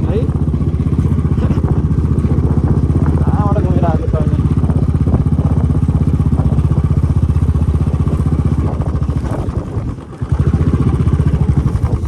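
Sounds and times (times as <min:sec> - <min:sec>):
engine running with rapid beat: 0:00.0 - 0:12.0.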